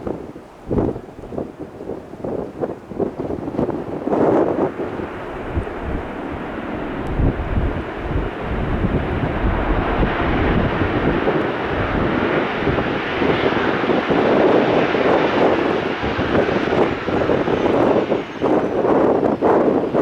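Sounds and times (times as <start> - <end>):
wind rumbling on microphone: 0.0 - 20.0
jet engines passing: 1.8 - 20.0.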